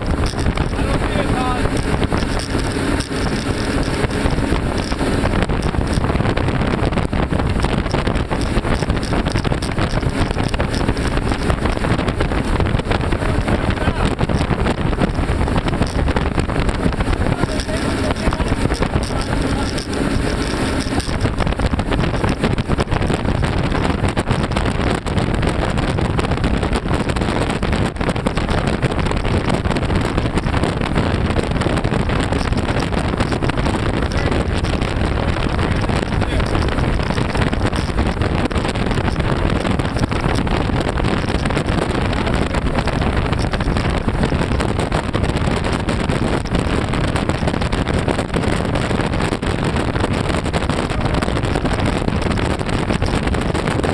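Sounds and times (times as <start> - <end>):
outboard motors droning: 0.0 - 53.9
water rushing from wake: 0.0 - 53.9
wind buffeting microphone: 0.0 - 53.9.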